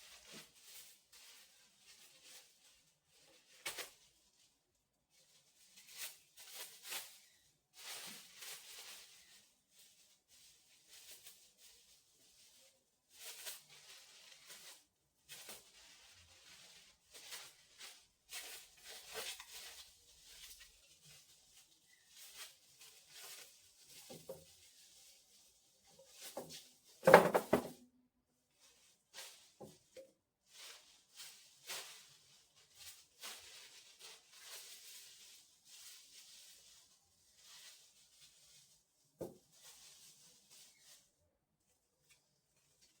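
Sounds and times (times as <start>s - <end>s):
rustles and scrapes of handling: 0.0s - 43.0s.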